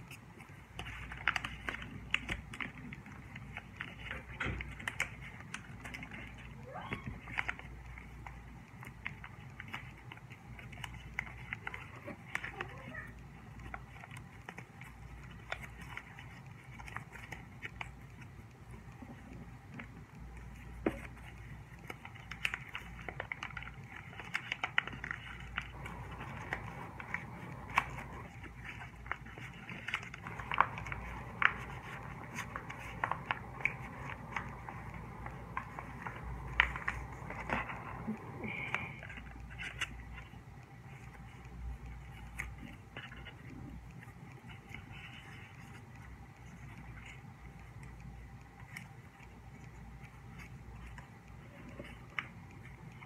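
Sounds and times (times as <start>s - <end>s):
paper crinkling while folded: 0.0s - 53.0s.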